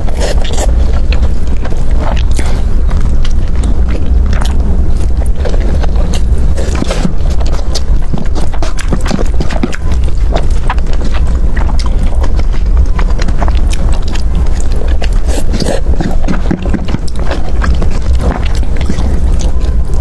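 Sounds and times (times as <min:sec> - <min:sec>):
chewing food: 0:00.0 - 0:20.0
low rumble: 0:00.0 - 0:20.0.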